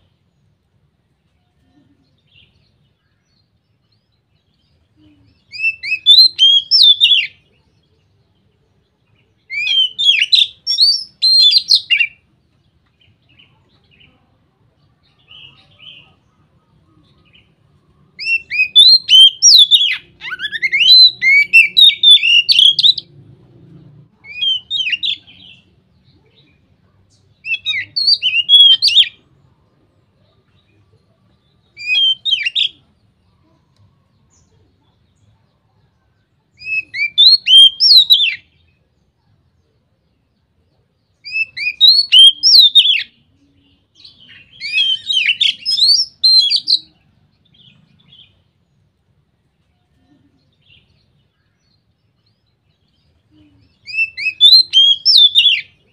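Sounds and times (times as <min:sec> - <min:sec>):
songbird whistling song: 0:01.4 - 0:12.3, 0:15.0 - 0:23.2, 0:24.2 - 0:29.3, 0:30.2 - 0:38.9, 0:41.0 - 0:48.9, 0:50.0 - 0:55.9.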